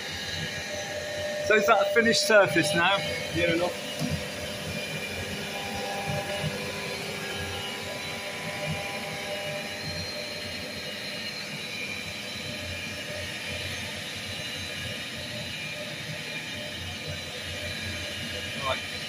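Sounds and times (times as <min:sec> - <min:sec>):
machine humming and whining: 0:00.0 - 0:19.0.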